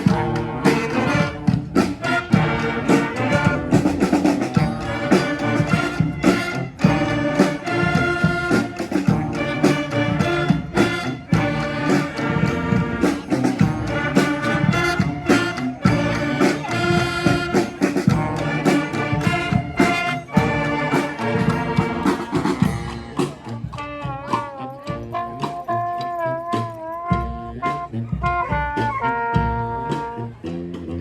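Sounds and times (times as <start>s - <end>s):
brass band playing: 0.0s - 31.0s.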